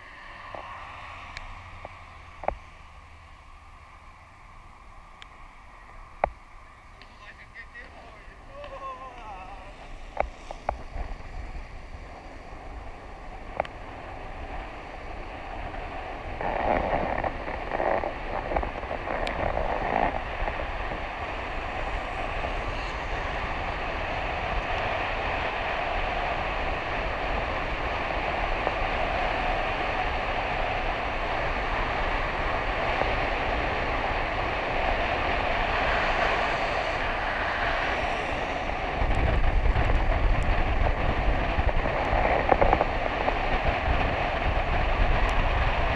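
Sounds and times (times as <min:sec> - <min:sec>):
deep rumble: 0:00.0 - 0:45.9
skate wheels rolling on wet asphalt: 0:00.0 - 0:45.9
wind rushing on microphone: 0:00.0 - 0:45.9.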